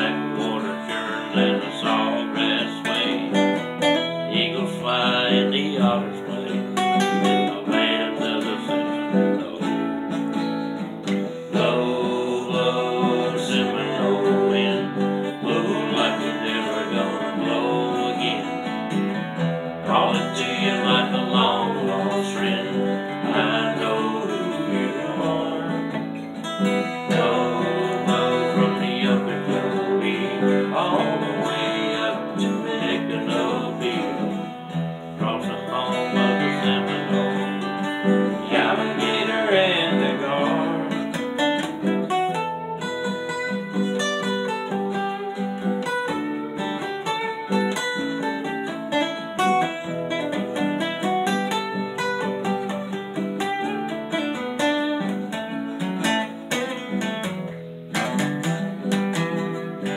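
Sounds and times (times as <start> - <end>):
acoustic guitars playing country: 0.0 - 59.9.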